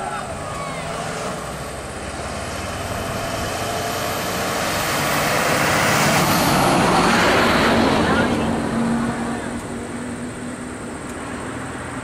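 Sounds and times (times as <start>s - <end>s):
bus and lorry driving past: 0.0s - 12.0s.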